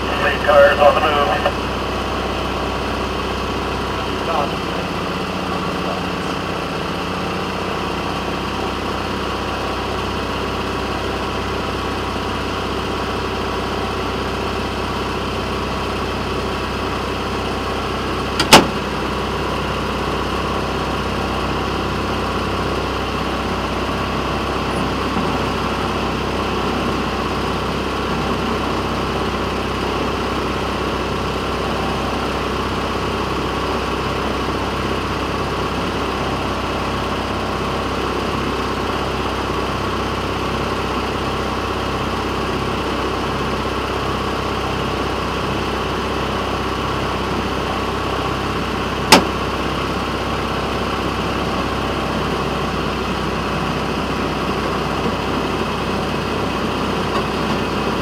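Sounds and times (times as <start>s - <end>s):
railroad motorcar engine running: 0.0s - 58.0s.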